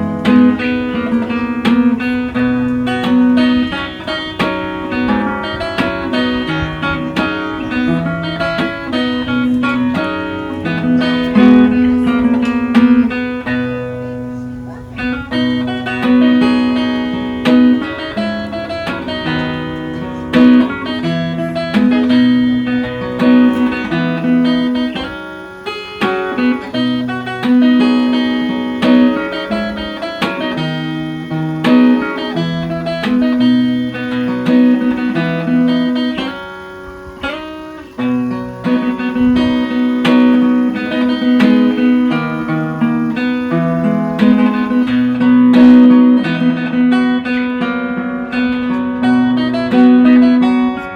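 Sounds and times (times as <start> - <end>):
instrumental guitar music: 0.0 - 50.9.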